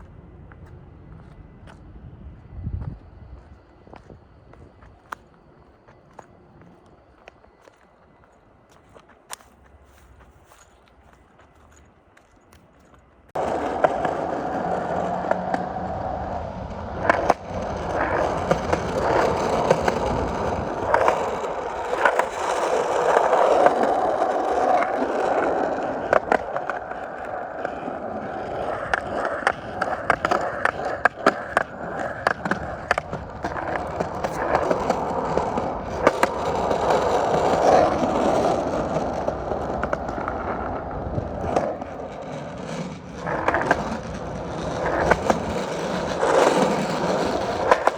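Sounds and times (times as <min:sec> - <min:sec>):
skate wheels rolling on pavement: 0:00.0 - 0:47.9.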